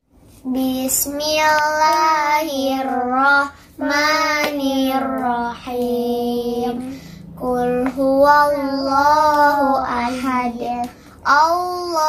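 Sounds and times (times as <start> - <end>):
girl chanting a sung recitation: 0.4 - 12.0.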